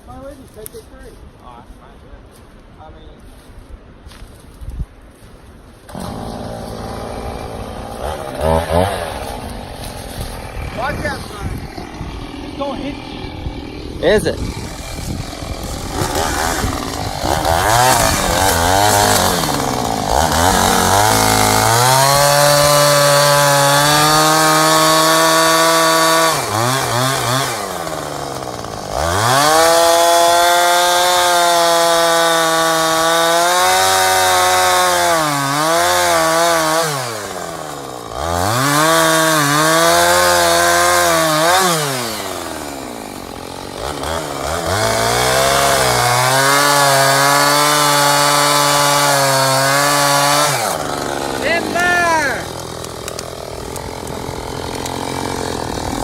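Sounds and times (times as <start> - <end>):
chainsaw cutting wood: 5.8 - 56.0.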